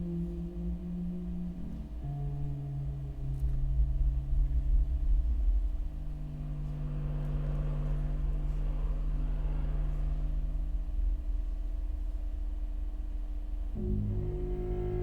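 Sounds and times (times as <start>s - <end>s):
deep rumble: 0.0s - 15.0s
low drones of ensemble: 0.0s - 15.0s.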